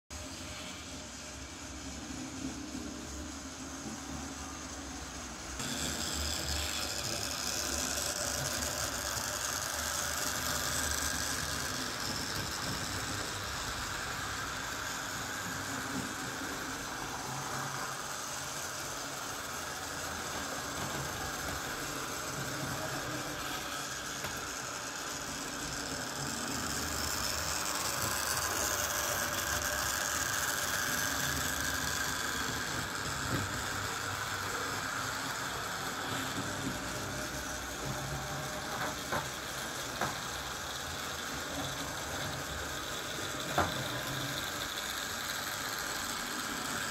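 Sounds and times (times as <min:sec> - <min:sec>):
model train motor whirring: 0:00.2 - 0:46.9
wheels running on rails: 0:00.2 - 0:46.9.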